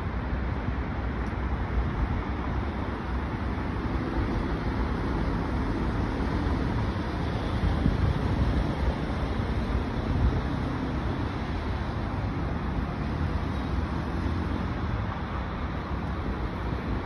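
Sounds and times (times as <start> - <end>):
bus driving past: 0.0 - 17.0
road traffic noise: 0.0 - 17.0.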